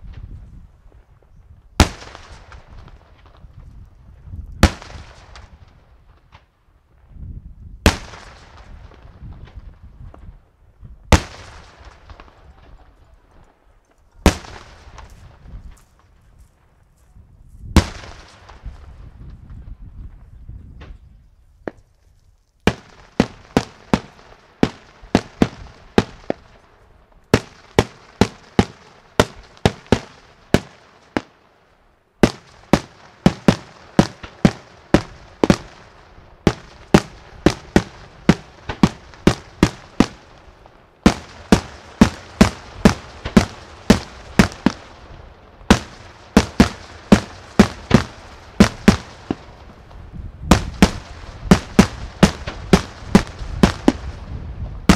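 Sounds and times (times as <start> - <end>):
fireworks bursting with sharp bangs: 0.0 - 6.6, 7.8 - 13.3, 14.1 - 16.2, 17.7 - 21.9, 22.6 - 54.9.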